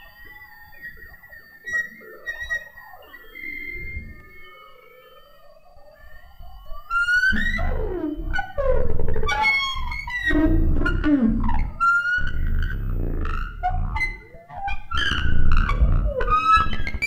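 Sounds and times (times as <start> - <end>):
electronic tones swooping down: 0.0 - 17.0
quiet wavering tone: 0.0 - 17.0.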